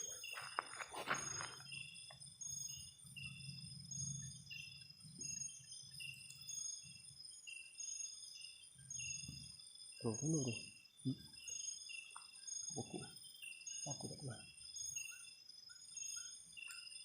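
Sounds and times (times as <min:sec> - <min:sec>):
crickets trilling: 0:00.0 - 0:17.0
short insect chirps: 0:00.0 - 0:17.0.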